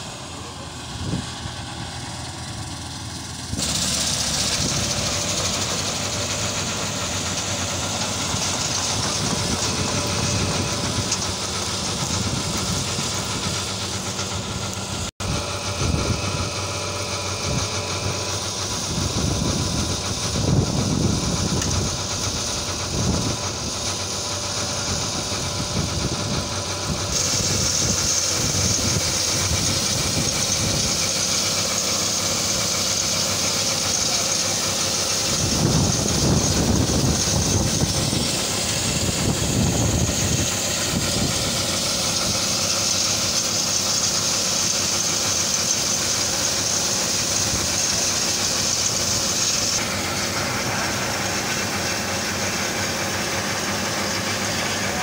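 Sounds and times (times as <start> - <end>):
bright hiss: 0.0 - 55.0
combine harvester drone: 0.0 - 55.0.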